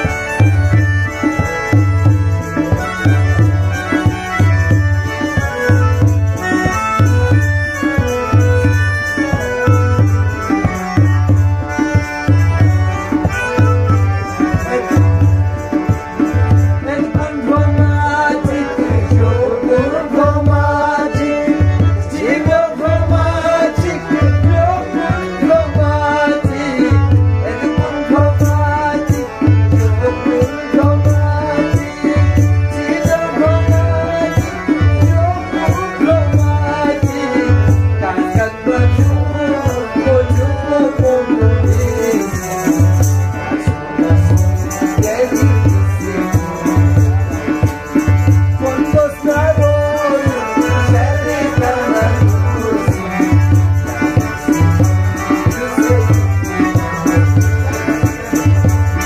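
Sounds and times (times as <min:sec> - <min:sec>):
hand drum beat: 0:00.0 - 0:59.0
harmonium melody: 0:00.0 - 0:59.0.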